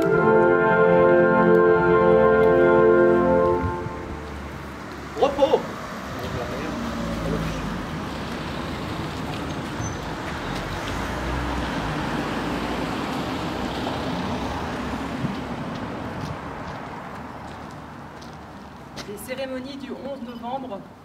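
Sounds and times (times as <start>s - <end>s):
vehicle passing: 0.0s - 18.2s.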